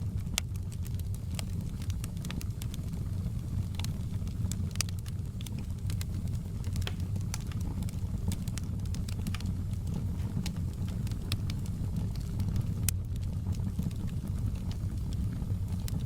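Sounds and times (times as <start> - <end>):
low rumble of burning fire: 0.0 - 16.0
wood fire crackling and popping: 0.0 - 16.0.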